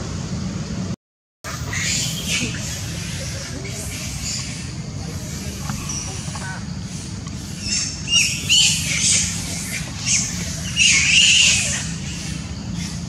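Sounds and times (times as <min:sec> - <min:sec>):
monkey squealing: 0:01.5 - 0:13.0.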